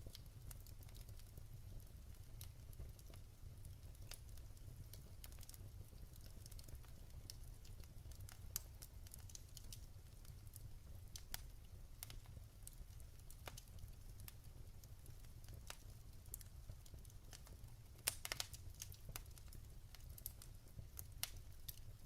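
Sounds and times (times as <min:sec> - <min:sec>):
low steady fire rumble: 0:00.0 - 0:22.0
wood fire crackling and popping: 0:00.0 - 0:22.0.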